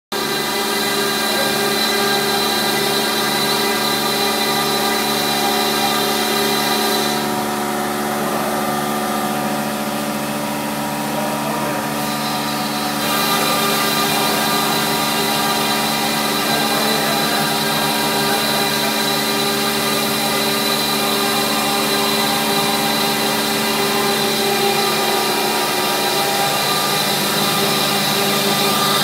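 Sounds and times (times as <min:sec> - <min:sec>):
router spindle whine: 0:00.1 - 0:29.0.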